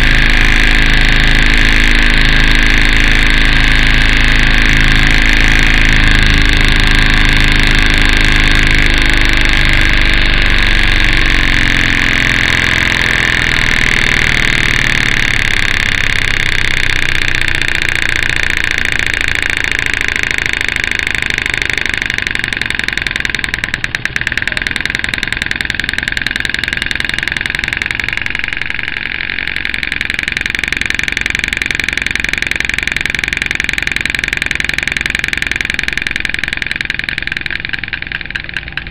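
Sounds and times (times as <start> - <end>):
model steam engine exhaust beat: 0.0 - 38.9.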